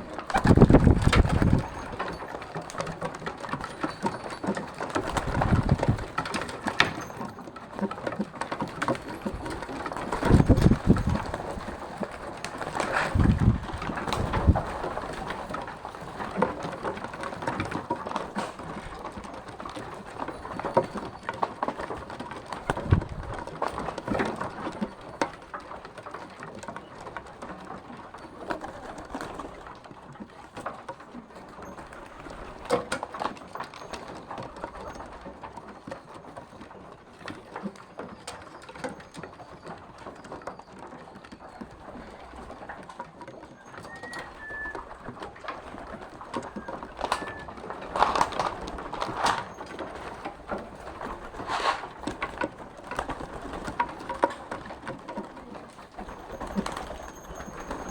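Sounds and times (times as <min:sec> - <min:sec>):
birds tapping and rustling: 0:00.0 - 0:57.9.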